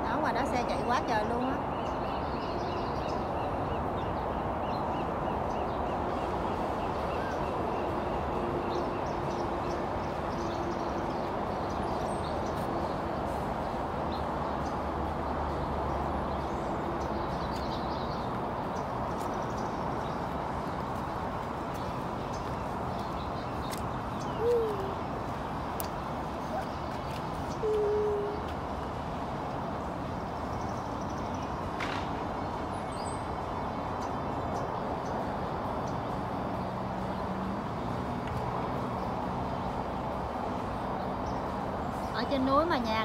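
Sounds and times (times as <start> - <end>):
distant freeway traffic hum: 0.0 - 43.0.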